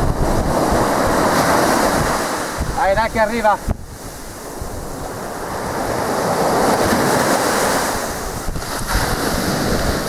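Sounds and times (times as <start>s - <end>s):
sea waves washing on beach: 0.0s - 10.0s.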